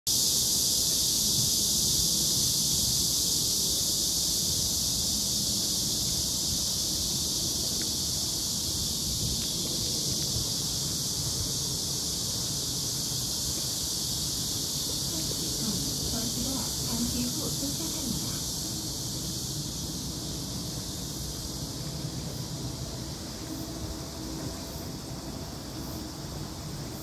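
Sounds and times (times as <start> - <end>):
cicada chorus: 0.1 - 27.0
wind rumble on microphone: 0.2 - 27.0.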